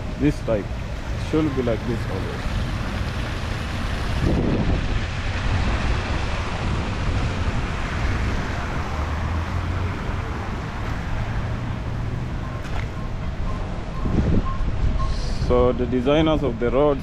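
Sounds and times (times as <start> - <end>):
outdoor rush of noise: 0.0 - 17.0
wind buffeting microphone: 2.7 - 17.0.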